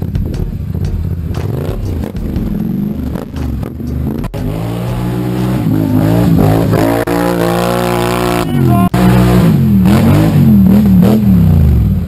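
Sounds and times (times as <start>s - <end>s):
quad bike engine revving: 0.0s - 12.0s.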